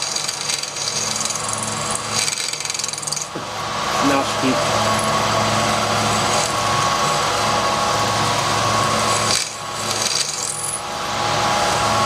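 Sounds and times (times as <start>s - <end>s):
drill rasping through metal: 0.0s - 10.8s
machine motor hum: 0.0s - 12.0s.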